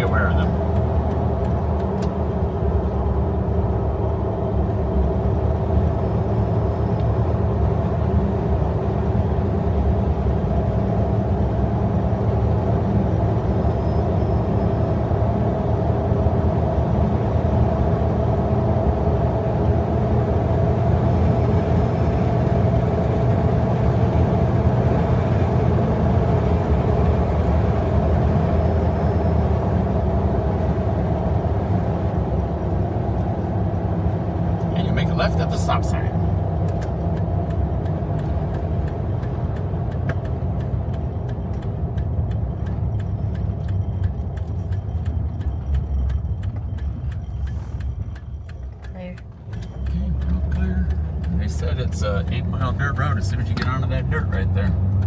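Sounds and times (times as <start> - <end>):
car engine and tyre drone: 0.0 - 55.0.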